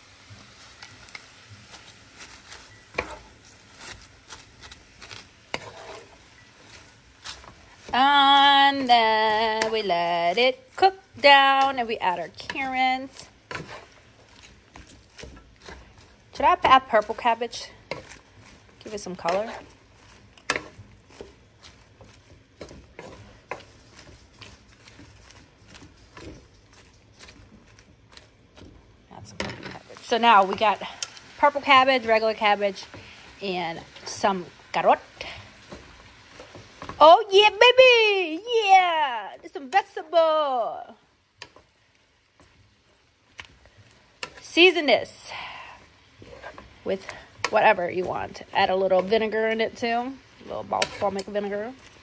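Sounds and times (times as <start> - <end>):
wooden spoon scraping frying pan: 0.0 - 52.0.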